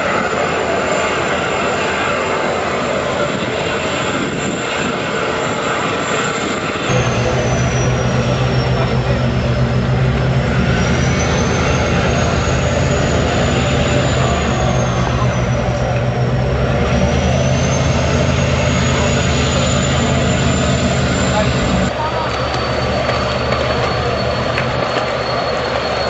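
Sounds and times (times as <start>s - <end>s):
engine drone: 0.0s - 26.0s
rushing noise: 0.0s - 26.0s.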